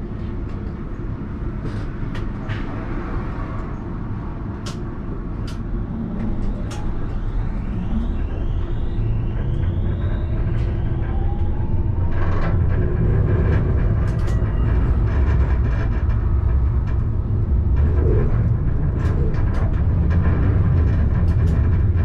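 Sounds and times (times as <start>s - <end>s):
tram drive whine: 0.0s - 22.0s
wheels rumbling on rails: 0.0s - 22.0s.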